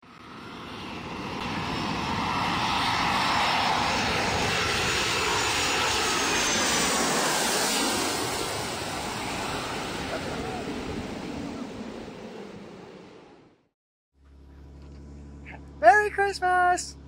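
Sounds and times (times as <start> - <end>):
jet airliner passing overhead: 0.0 - 13.7.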